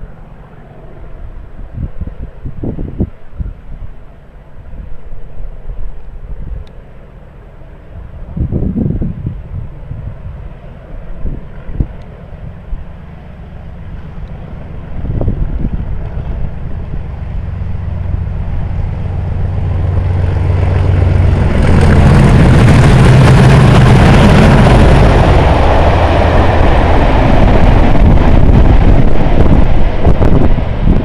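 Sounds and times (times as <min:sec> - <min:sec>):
diesel locomotive engine passing: 0:00.0 - 0:31.0.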